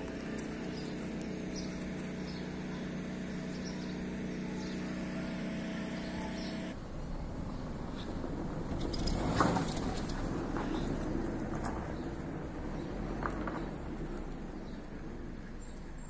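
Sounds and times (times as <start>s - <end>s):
low mechanical motor hum: 0.0s - 16.0s
outdoor background noise: 0.0s - 16.0s.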